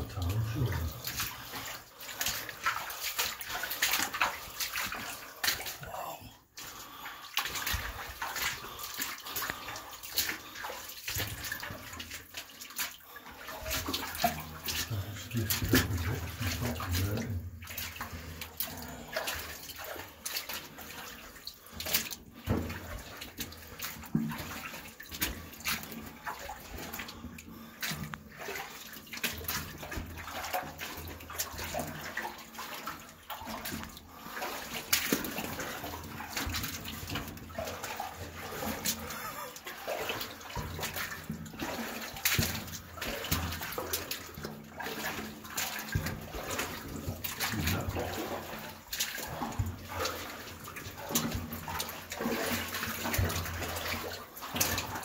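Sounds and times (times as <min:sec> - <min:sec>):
running water: 0:00.0 - 0:55.0
water splashing: 0:00.0 - 0:55.0.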